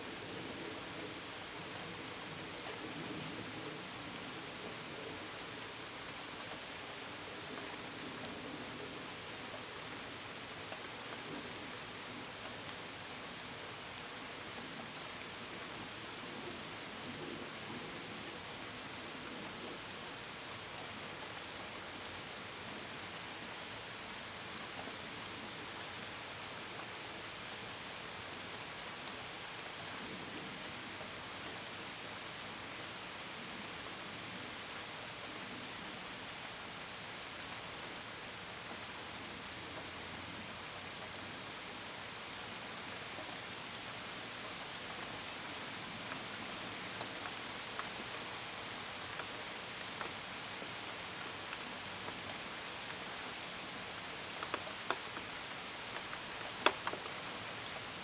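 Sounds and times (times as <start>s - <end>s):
steady rain with tapping drops: 0.0s - 58.0s.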